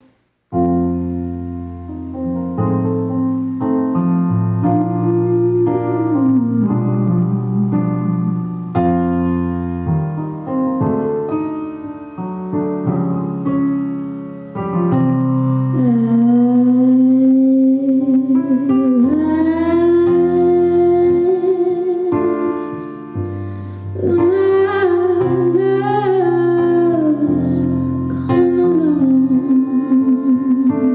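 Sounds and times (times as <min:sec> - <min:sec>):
keyboard chords: 0:00.0 - 0:30.9.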